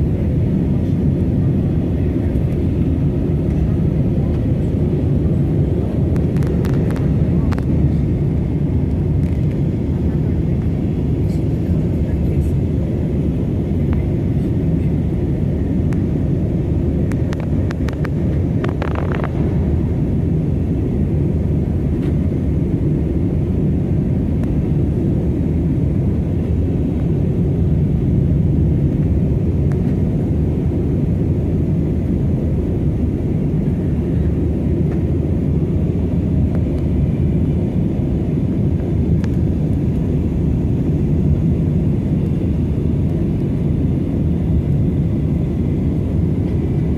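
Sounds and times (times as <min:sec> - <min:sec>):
jet engine cabin rumble: 0:00.0 - 0:46.9.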